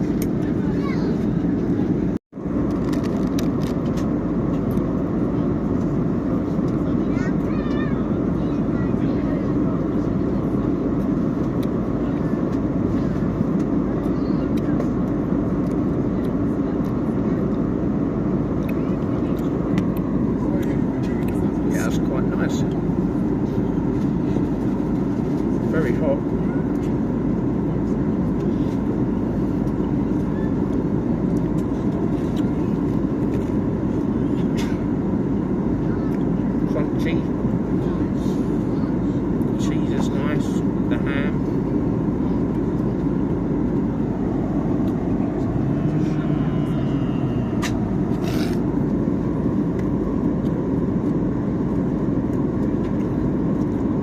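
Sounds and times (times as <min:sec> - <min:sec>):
jet engine and airflow drone: 0:00.0 - 0:54.0.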